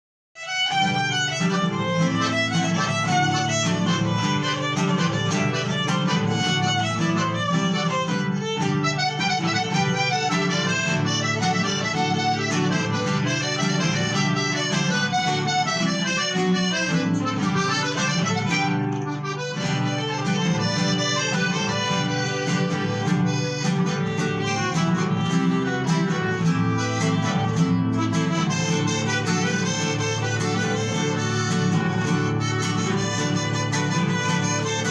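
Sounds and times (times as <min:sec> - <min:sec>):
accordion: 0:00.4 - 0:34.9
guitar accompaniment: 0:00.4 - 0:34.9
violin: 0:00.4 - 0:34.9.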